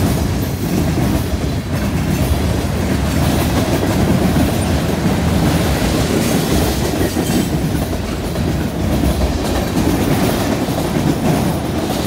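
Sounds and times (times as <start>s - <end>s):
train wheels rolling on rails: 0.0s - 12.0s.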